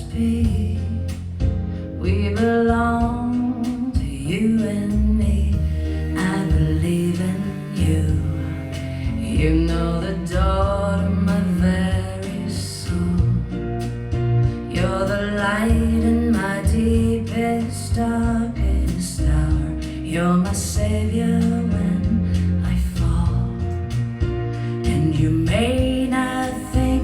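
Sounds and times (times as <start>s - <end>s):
pop ballad over loudspeakers: 0.0s - 27.0s.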